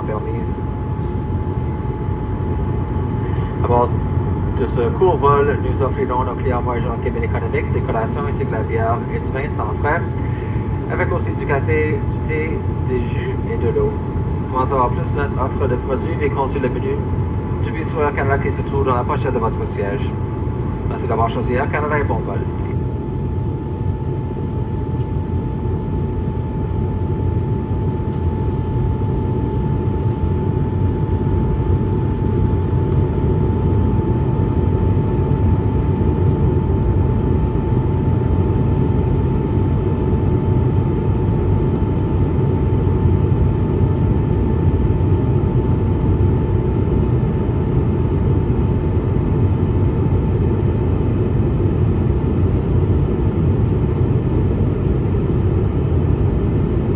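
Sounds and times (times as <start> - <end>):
jet engines and airflow rumble: 0.0 - 56.9
thin steady hum: 0.0 - 56.9.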